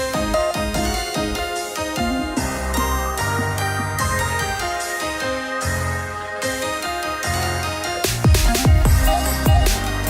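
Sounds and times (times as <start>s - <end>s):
background music with beat and bass: 0.0s - 10.0s.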